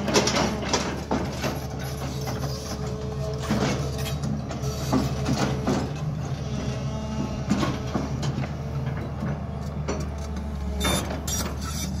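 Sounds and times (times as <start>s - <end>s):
excavator diesel engine running: 0.0s - 12.0s
metallic clanks and knocks: 0.0s - 12.0s.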